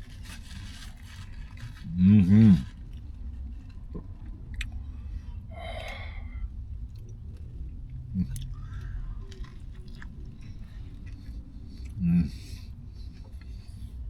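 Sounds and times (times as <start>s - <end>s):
person chewing food: 2.7s - 14.0s.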